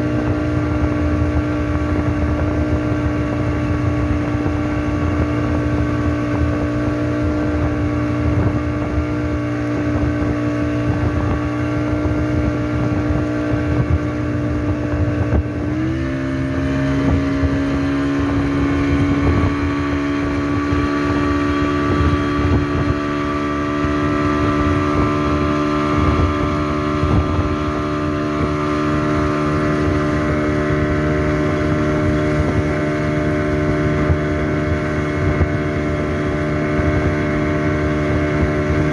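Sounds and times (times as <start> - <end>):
boat engine running: 0.0 - 38.9
water rushing: 0.0 - 38.9
wind: 0.0 - 38.9.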